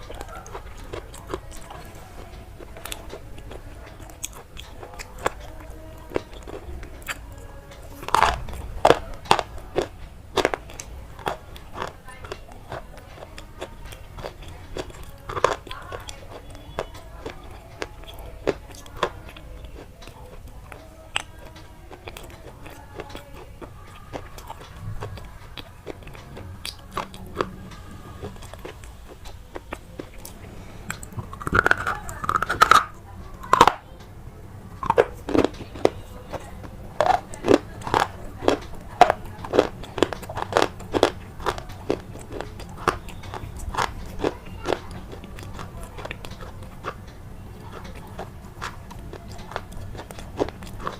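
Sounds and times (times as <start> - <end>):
brittle crunching: 0.0 - 34.0, 34.8 - 50.9.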